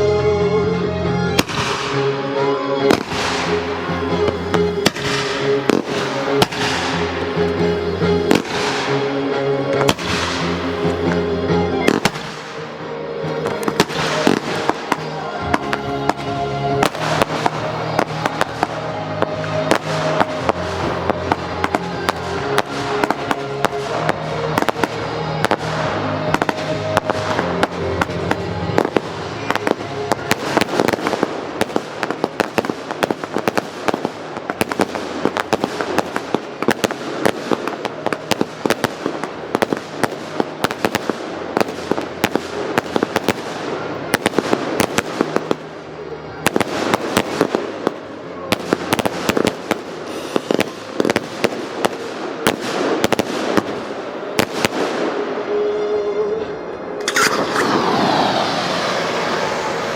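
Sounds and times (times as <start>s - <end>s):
music: 0.0s - 58.2s
fireworks bangs and crackling: 1.3s - 59.9s.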